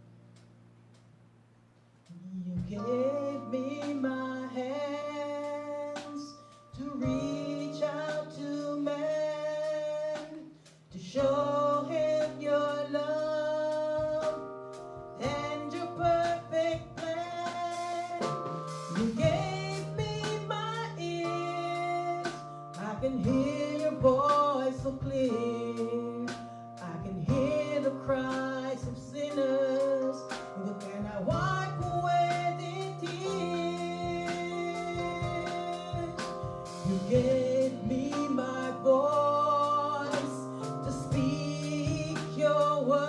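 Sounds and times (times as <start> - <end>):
instrumental accompaniment: 1.9 - 43.0
woman singing: 2.1 - 14.4, 15.2 - 43.0.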